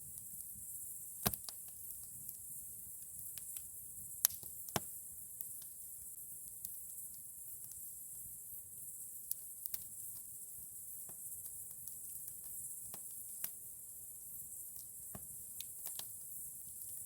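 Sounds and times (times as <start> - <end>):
campfire crackling: 0.1 - 17.0.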